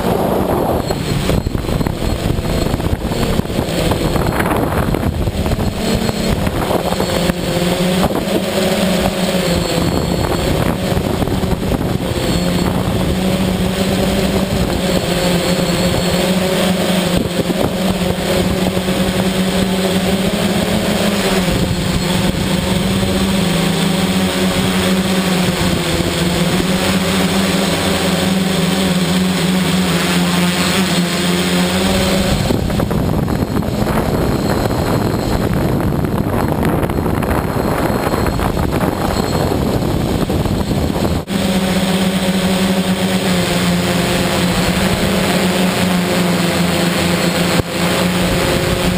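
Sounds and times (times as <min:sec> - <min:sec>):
drone propellers humming: 0:00.0 - 0:48.9
wind noise on microphone: 0:00.0 - 0:48.9.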